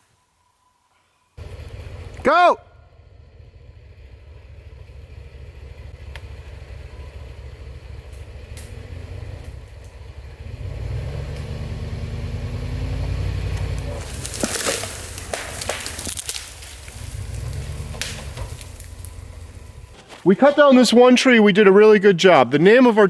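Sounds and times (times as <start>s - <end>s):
vehicle engine running under load: 1.4s - 21.7s.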